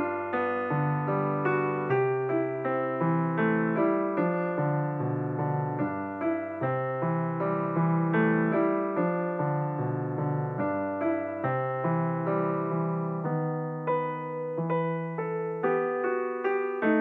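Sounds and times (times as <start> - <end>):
calm piano-like keyboard notes: 0.0 - 17.0.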